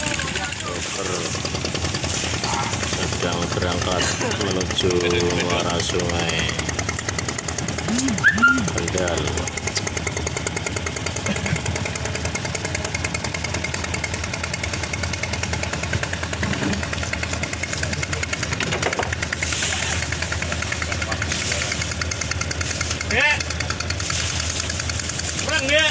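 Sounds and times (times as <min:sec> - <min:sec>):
boat engine knocking steadily: 0:00.0 - 0:25.9.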